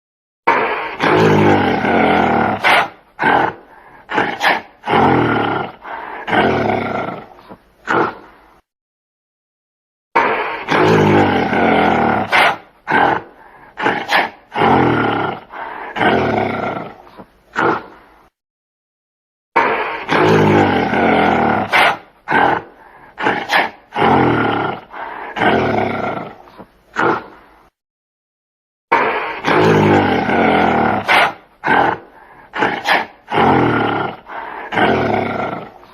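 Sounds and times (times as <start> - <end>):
gorilla roaring: 0.5 - 8.3, 10.2 - 18.1, 19.6 - 27.4, 28.9 - 35.9.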